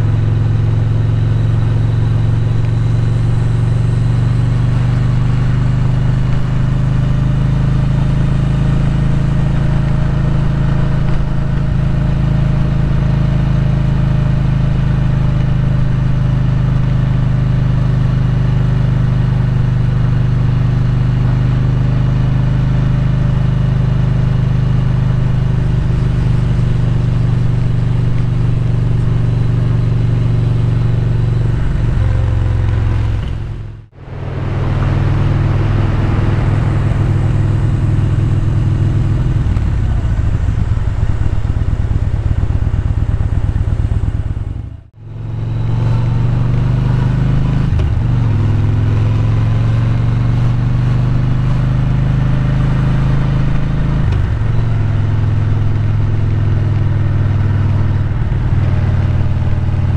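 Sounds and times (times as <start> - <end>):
motorcycle engine hum: 0.0 - 59.9
road noise: 0.0 - 59.9.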